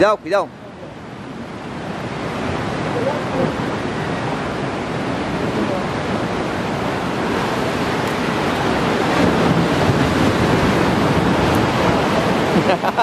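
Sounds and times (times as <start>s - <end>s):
surf washing against rocks: 0.0s - 13.0s.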